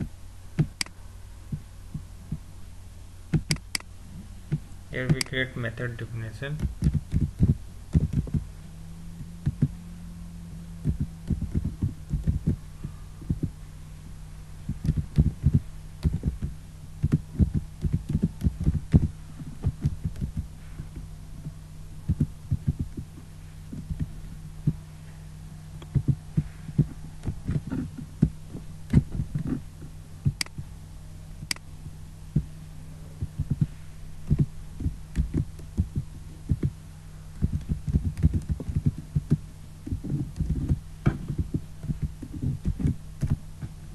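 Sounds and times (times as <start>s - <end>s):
low electrical hum: 0.0s - 43.9s.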